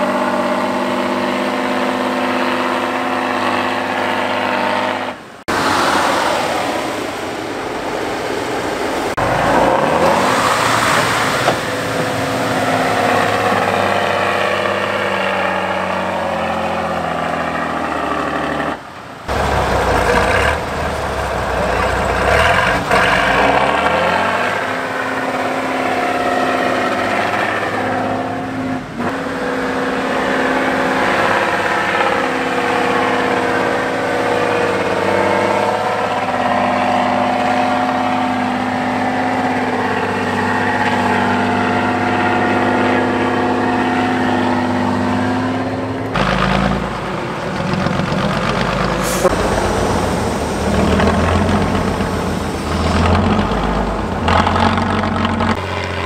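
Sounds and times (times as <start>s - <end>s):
truck diesel engine under load: 0.0s - 56.0s.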